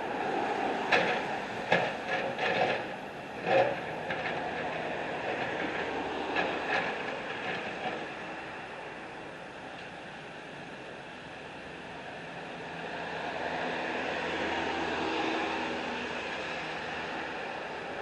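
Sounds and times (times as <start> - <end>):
machinery rumble: 0.0 - 18.0.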